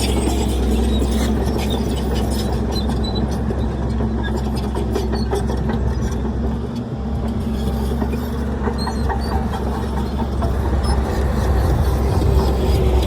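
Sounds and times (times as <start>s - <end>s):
diesel earthmoving machinery droning: 0.0s - 13.0s.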